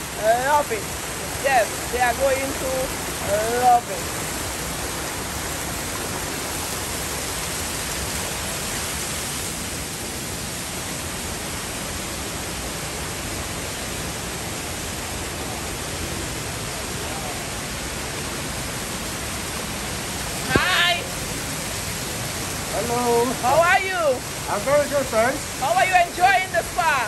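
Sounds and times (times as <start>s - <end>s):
water pouring into pools: 0.0s - 27.0s
water rushing down a stone slide: 0.0s - 27.0s.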